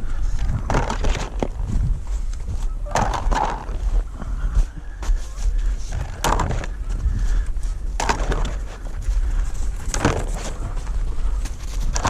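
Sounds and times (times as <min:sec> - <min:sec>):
dry crunching and rustling: 0:00.0 - 0:12.0
steady low rumble: 0:00.0 - 0:12.0.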